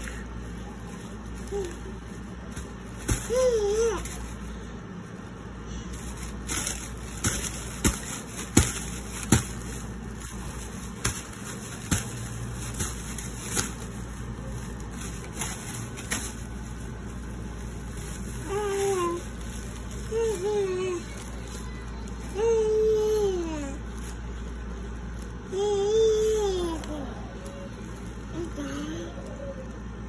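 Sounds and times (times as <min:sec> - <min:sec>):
plastic bag crinkling: 0:00.0 - 0:29.9
low steady hum: 0:00.0 - 0:30.0.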